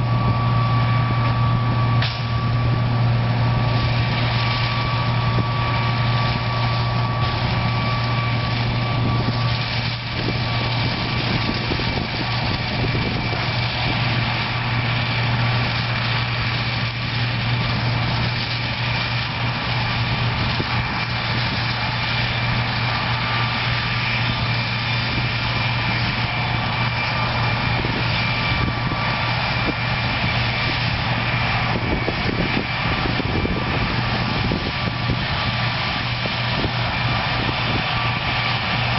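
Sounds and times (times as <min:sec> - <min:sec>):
faint high whine: 0:00.0 - 0:38.9
harvesting machine engine drone: 0:00.0 - 0:38.9.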